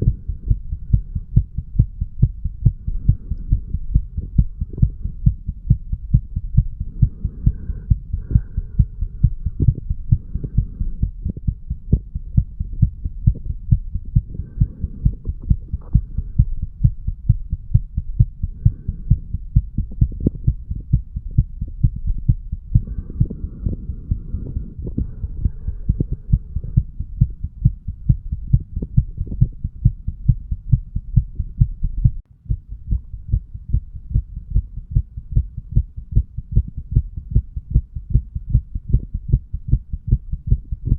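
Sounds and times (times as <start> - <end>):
heartbeat thumping: 0.0 - 40.9.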